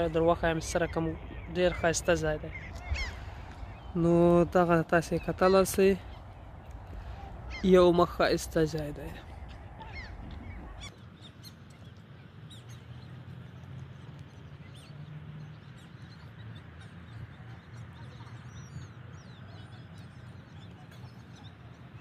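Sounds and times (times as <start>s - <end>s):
birds chirping: 0.0s - 22.0s
low outdoor rumble: 0.0s - 22.0s.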